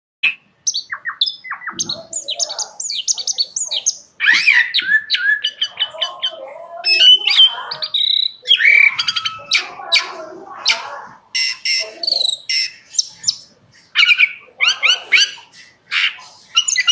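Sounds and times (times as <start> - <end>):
blackbird singing: 0.2 - 16.9.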